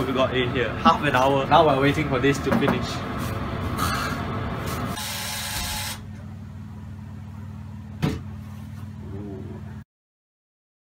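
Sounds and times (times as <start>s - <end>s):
drying cabinet humming: 0.1s - 9.8s.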